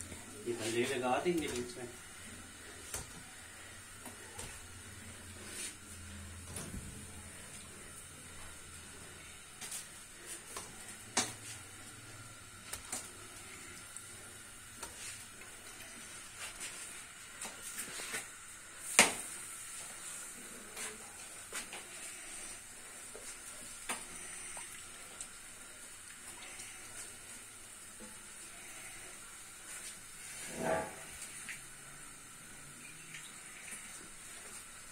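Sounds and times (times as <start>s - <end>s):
faint steady hiss: 0.0s - 34.9s.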